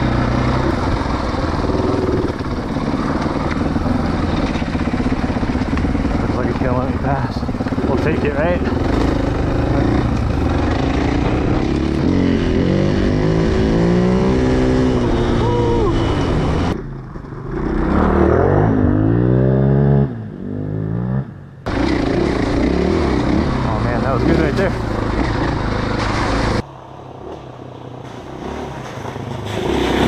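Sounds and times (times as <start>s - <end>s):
dirt bike engine revving: 0.0s - 26.6s.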